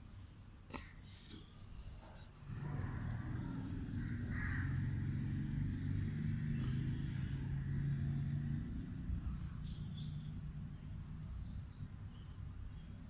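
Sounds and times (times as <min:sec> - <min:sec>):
low engine hum: 0:02.4 - 0:13.0.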